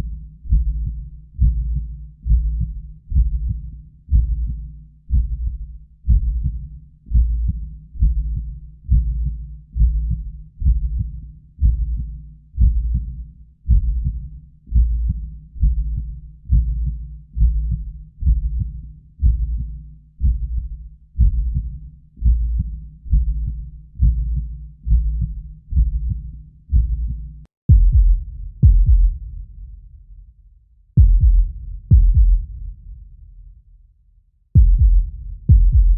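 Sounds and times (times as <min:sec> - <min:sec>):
heartbeat thumps with echo: 0:00.0 - 0:30.0, 0:31.0 - 0:33.4, 0:34.6 - 0:35.9.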